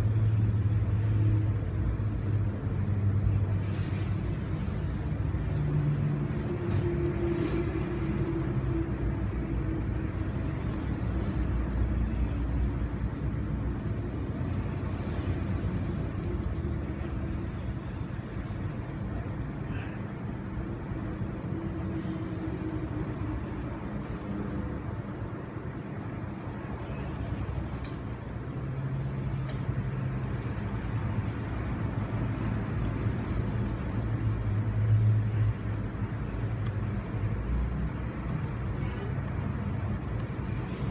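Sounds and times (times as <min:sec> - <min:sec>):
faint hum: 0:00.0 - 0:40.9.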